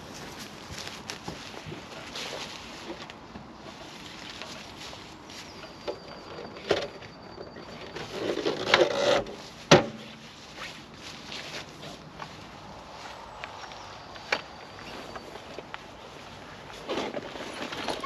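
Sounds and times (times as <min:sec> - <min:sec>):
rustling and clattering: 0:00.0 - 0:18.0.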